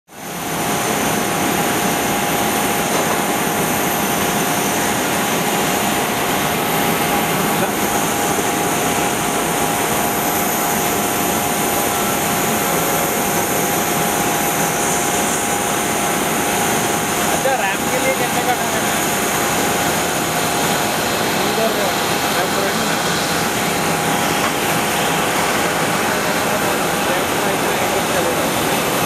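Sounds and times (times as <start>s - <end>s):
jet engines rushing and whining: 0.1s - 29.0s.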